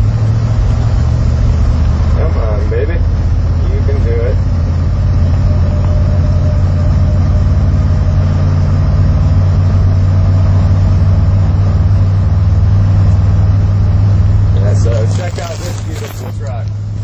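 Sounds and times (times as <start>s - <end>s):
truck engine drone inside cab: 0.0s - 17.0s.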